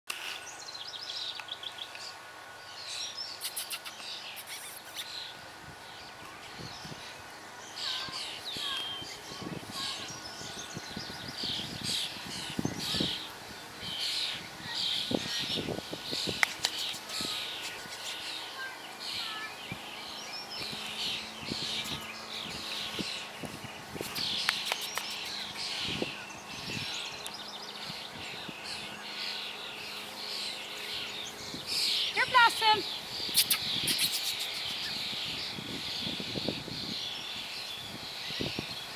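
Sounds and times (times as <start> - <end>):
birds chirping and calling: 0.1 - 38.9.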